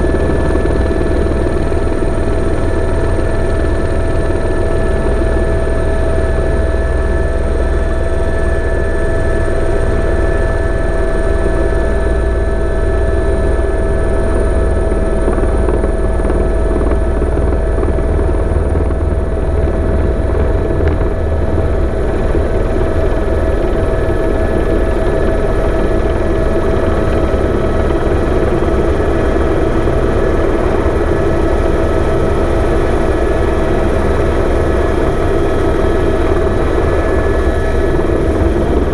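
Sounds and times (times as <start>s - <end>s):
helicopter engine whine: 0.0s - 38.9s
helicopter rotor rumble: 0.0s - 38.9s.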